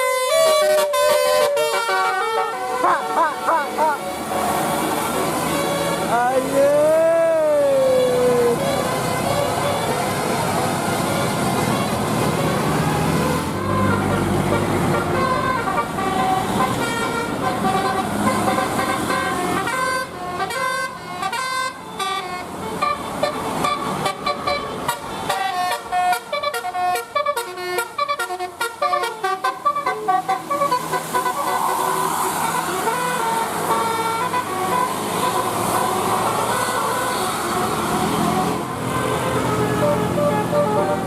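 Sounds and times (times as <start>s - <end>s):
bus horn playing a tune: 0.0s - 6.9s, 7.6s - 41.0s.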